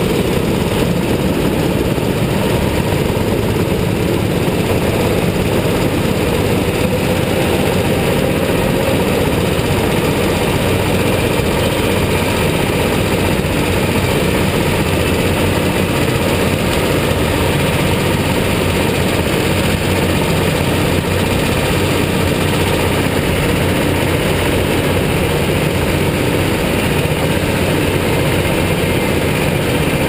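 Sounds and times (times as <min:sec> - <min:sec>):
go-kart engines droning: 0:00.0 - 0:30.0.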